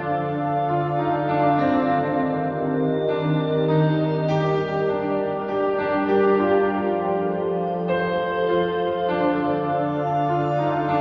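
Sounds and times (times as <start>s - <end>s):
ambient instrumental chords: 0.0s - 11.0s.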